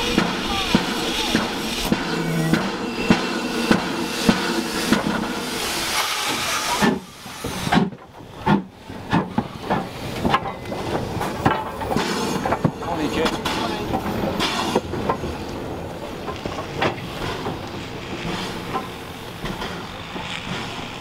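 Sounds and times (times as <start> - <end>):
steam hissing: 0.0 - 21.0
steam locomotive beats: 0.0 - 21.0.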